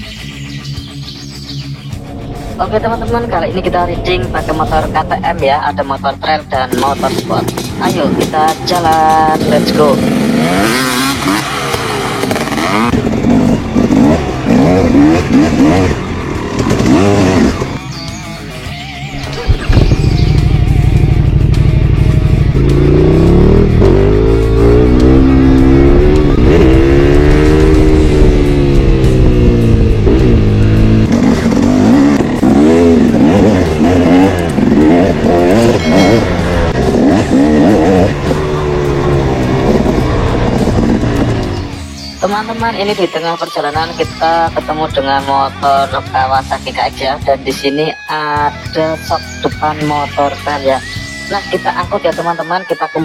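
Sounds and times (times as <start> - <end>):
motorcycle engine revving: 0.0 - 42.8.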